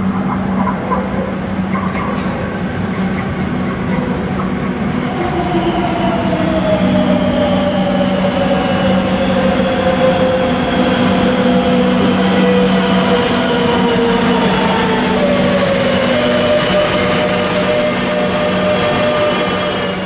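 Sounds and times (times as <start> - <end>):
electric train pulling in: 0.0 - 20.0.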